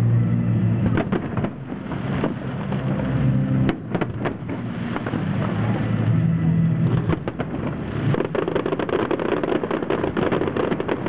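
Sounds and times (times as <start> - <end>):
low drone: 0.0 - 11.0
fireworks bursting and crackling: 0.6 - 11.0.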